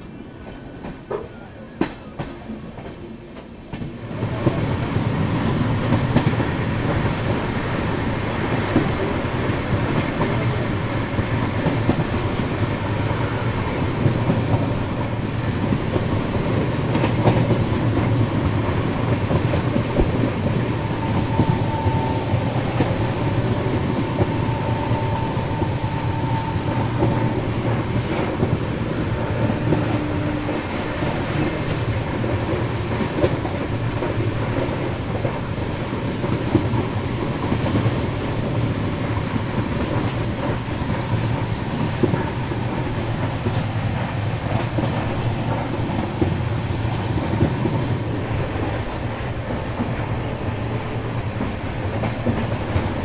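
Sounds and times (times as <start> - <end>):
train wheels running on rails: 0.0 - 53.0.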